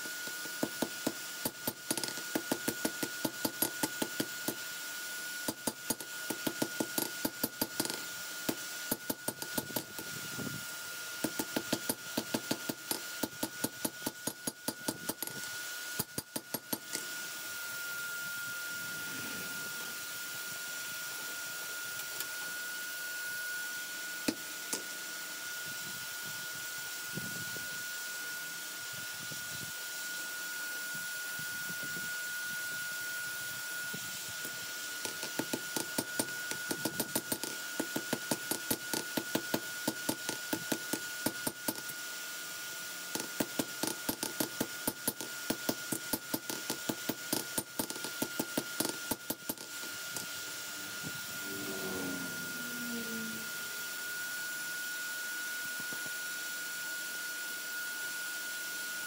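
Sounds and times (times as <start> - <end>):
constant high whine: 0.0 - 59.0.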